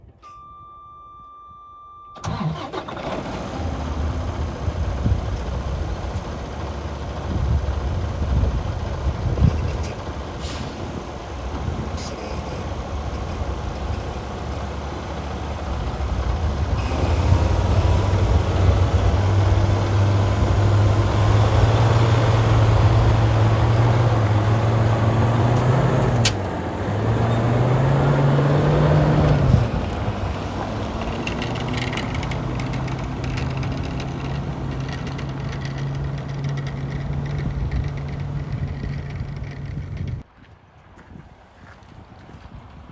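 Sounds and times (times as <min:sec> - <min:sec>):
diesel truck engine starting and revving: 0:02.2 - 0:40.3.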